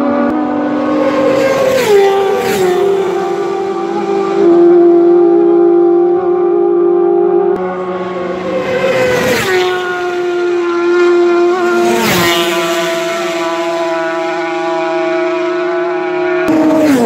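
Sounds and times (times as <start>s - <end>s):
superbike engines at full throttle: 0.0s - 17.0s
superbike passing at speed: 0.1s - 6.8s, 7.4s - 17.0s.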